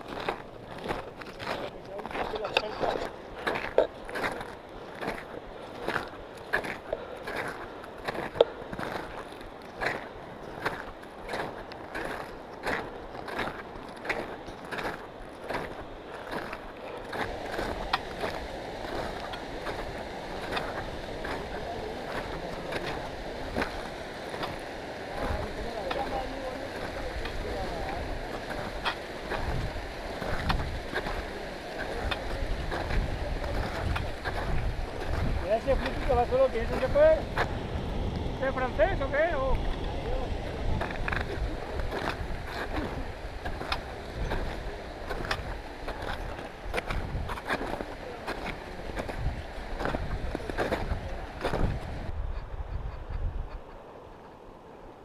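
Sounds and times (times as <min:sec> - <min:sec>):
footsteps crunching snow: 0:00.0 - 0:52.1
trekking poles planting: 0:00.0 - 0:52.2
wind on microphone: 0:01.4 - 0:54.3.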